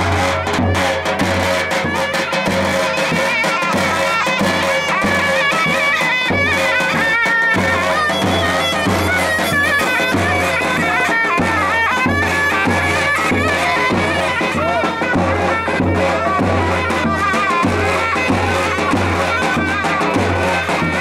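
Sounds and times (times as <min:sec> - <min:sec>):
shrill reed wind instrument melody: 0:00.0 - 0:21.0.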